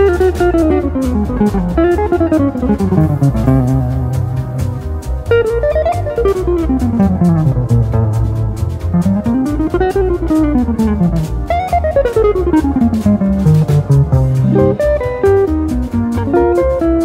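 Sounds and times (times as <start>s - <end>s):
bass: 0.0s - 17.0s
drums: 0.0s - 17.0s
electric guitar jazz runs: 0.0s - 17.0s.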